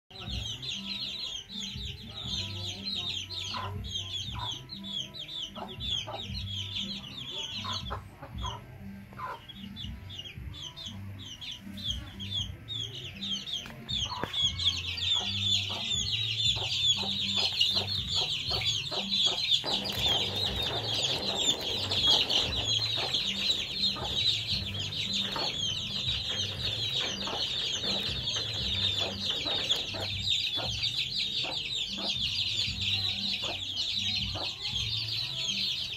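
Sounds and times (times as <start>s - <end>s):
chicks peeping: 0.1s - 35.9s.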